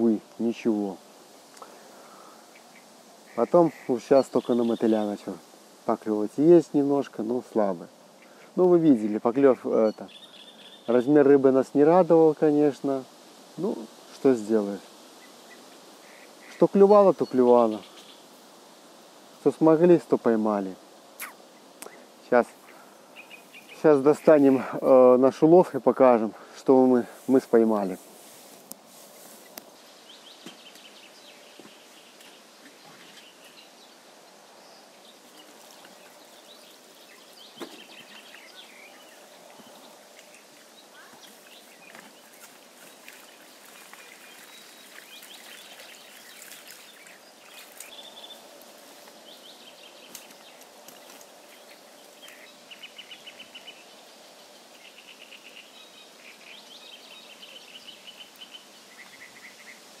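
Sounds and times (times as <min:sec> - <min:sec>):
outdoor hiss: 0:00.0 - 1:00.0
songbirds chirping and trilling: 0:00.0 - 1:00.0.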